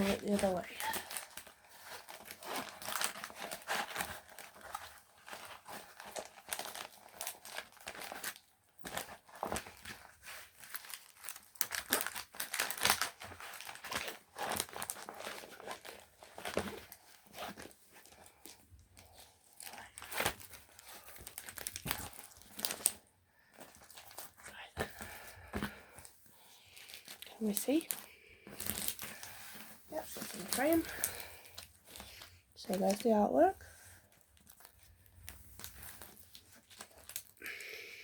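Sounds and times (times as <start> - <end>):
plastic cover crinkling: 0.0 - 37.8.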